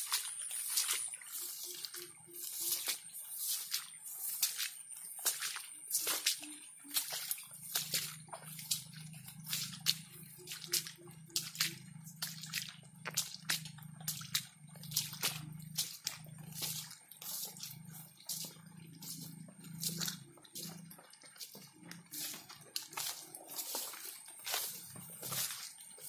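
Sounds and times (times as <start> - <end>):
footsteps on wet leaf litter: 0.0 - 26.0.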